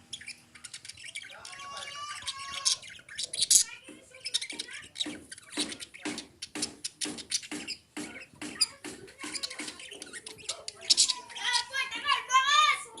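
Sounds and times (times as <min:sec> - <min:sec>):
lovebirds chattering: 0:00.0 - 0:13.0.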